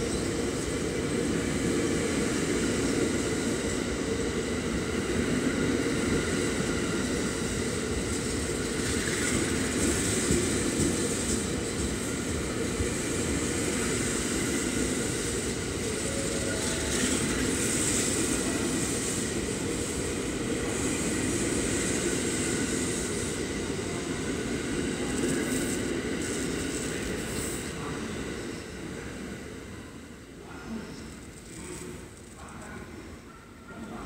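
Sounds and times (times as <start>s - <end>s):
train passing on rails: 0.0s - 34.0s.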